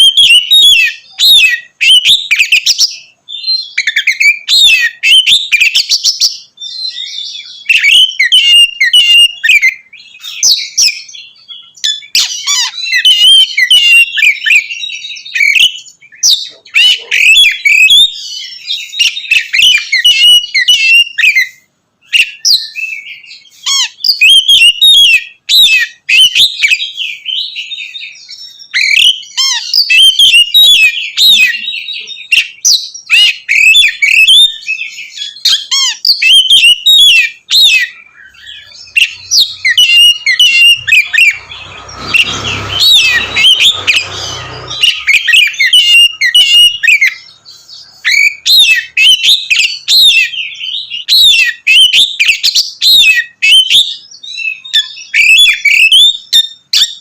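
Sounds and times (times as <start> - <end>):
bird singing rapid whistles: 0.0 - 57.0.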